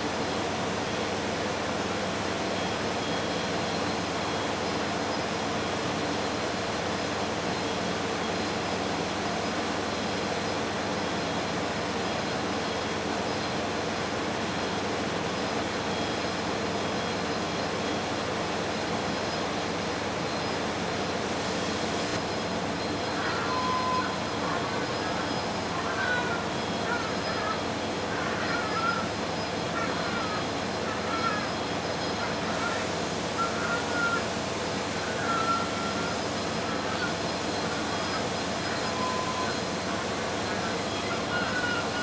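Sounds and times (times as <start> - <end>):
faint high whines: 0.0 - 42.0
ship engine drone: 0.0 - 42.0.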